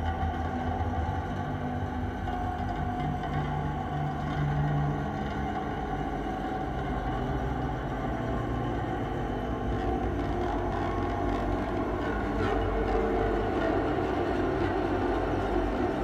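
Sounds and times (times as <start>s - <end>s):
low rumbling ambient drone: 0.0s - 16.0s.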